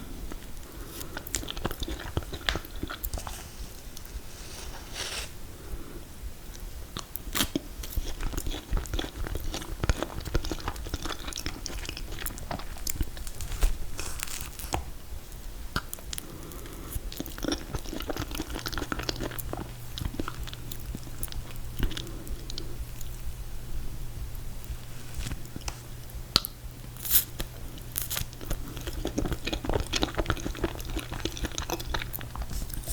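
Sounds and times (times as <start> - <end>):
low steady hum: 0.0 - 32.9
wet chewing and crunching: 0.3 - 4.1, 6.5 - 23.3, 24.6 - 32.9.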